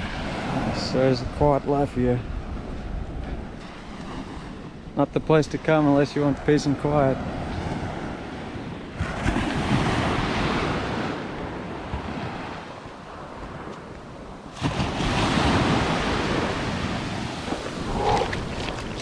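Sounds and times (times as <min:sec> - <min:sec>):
wind buffeting microphone: 0:00.0 - 0:05.0, 0:07.1 - 0:19.0
small waves washing onto shore: 0:00.0 - 0:19.0.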